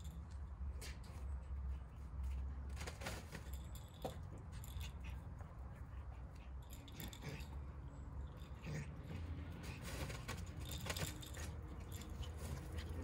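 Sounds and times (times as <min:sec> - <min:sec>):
puppies rustling and clicking: 0:00.0 - 0:13.0.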